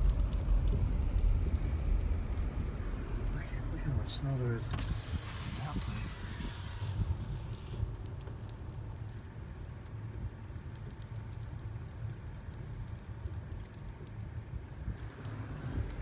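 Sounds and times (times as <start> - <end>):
light irregular ticks: 0.0 - 4.8, 6.3 - 16.0
car cabin low rumble: 0.0 - 10.7, 11.8 - 16.0.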